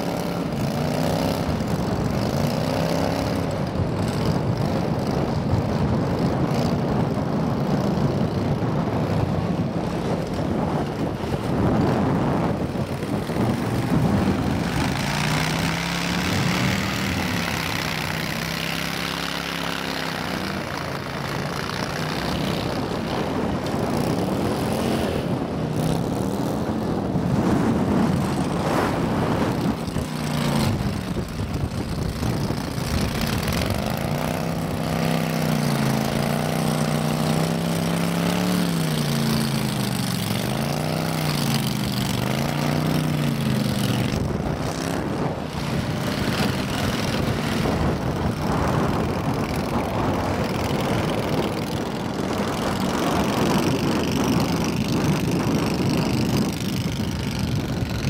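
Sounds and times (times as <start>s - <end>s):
churned water and mud rushing: 0.0s - 58.0s
boat motor revving: 10.2s - 58.0s.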